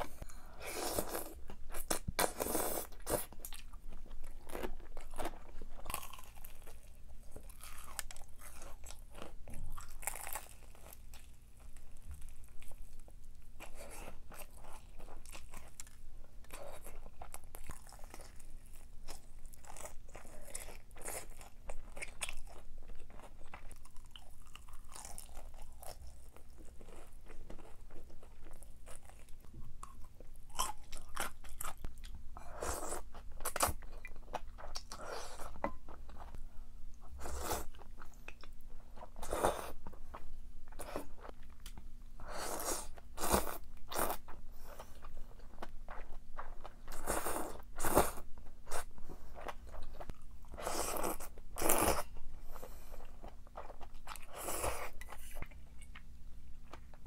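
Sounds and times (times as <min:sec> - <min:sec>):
person chewing crunchy food: 0:00.0 - 0:36.4, 0:37.0 - 0:57.0.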